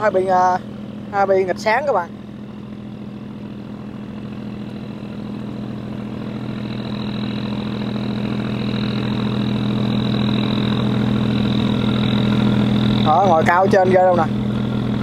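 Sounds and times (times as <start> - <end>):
boat engines humming: 0.0 - 15.0
thin high whine: 0.0 - 15.0.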